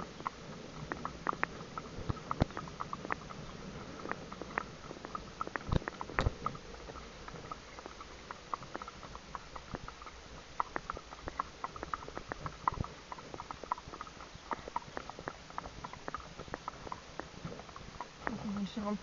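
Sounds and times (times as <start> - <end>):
raindrops pattering: 0.0 - 19.0.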